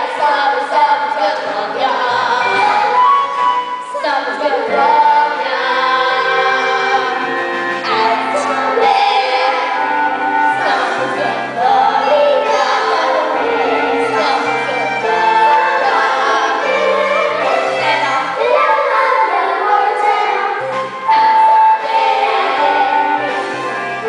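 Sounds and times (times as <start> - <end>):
girls singing in chorus: 0.0 - 24.0
piano and bass backing track: 0.0 - 24.0.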